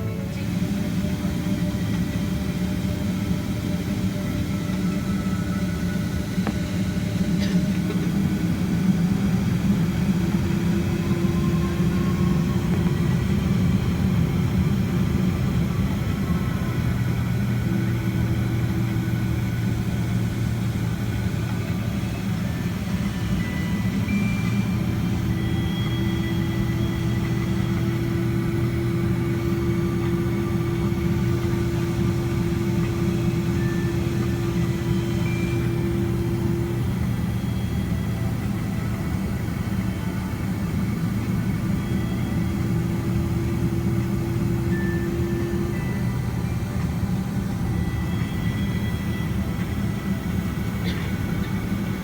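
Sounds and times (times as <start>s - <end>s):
airplane cabin rumble: 0.0s - 52.0s
steady low hum: 0.0s - 52.0s.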